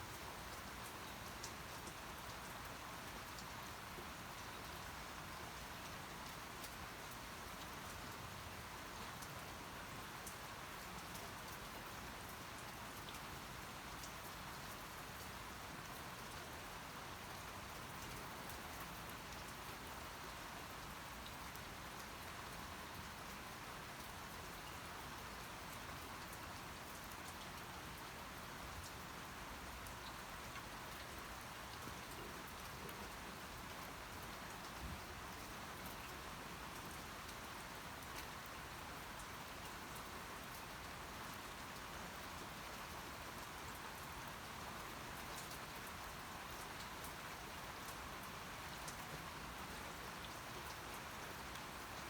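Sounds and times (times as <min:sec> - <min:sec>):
steady rain falling: 0:00.0 - 0:52.0
raindrops pattering on surface: 0:00.1 - 0:52.0.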